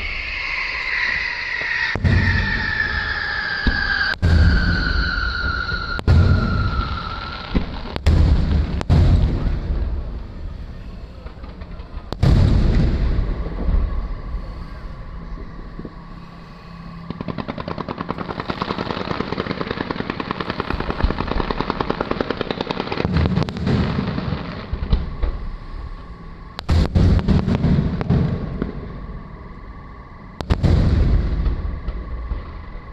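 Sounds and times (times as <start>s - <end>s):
rapid crackling firework pops: 1.6s - 13.9s, 16.8s - 29.3s, 30.3s - 32.9s.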